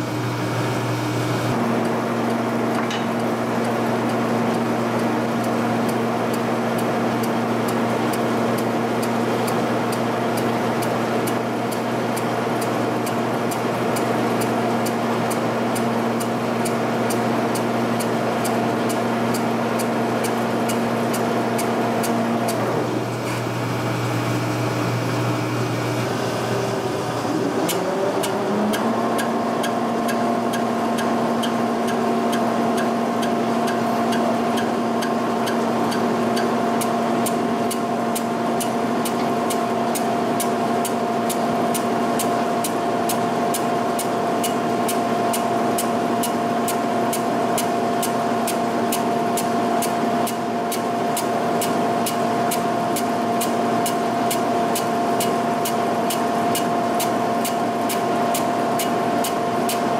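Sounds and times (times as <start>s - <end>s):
boring mill drive whining: 0.0s - 59.9s.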